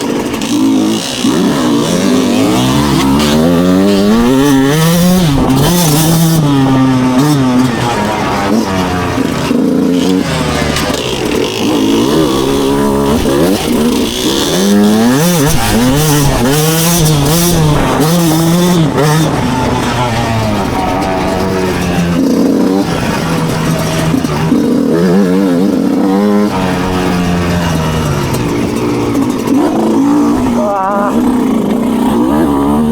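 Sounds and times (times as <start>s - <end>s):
two-stroke motocross bike engine: 0.0s - 32.9s.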